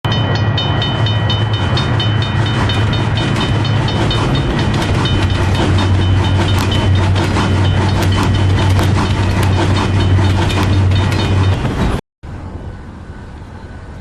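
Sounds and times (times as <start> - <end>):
train wheels clicking over rail joints: 0.3 - 12.0.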